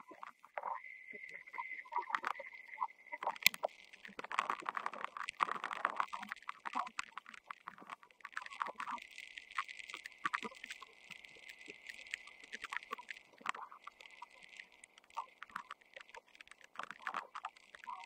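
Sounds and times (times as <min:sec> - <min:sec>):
rapid irregular clicks and knocks: 0:00.1 - 0:18.0.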